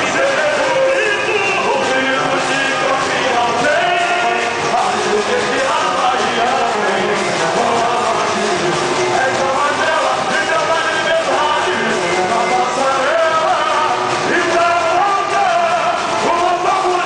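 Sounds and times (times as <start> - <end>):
samba music with singing: 0.0 - 17.0.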